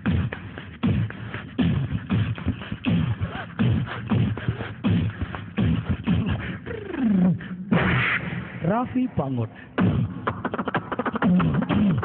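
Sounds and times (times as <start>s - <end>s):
man beatboxing: 0.0s - 12.0s.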